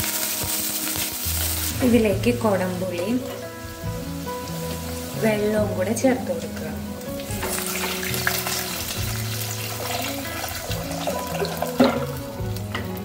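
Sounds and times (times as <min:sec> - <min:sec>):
water pouring and splashing: 0:00.0 - 0:12.6
background music with bass line: 0:00.0 - 0:13.0.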